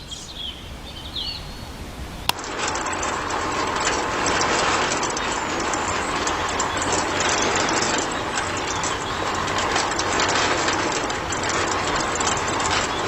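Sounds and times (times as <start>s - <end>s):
small motor and gears clattering: 2.3s - 13.0s.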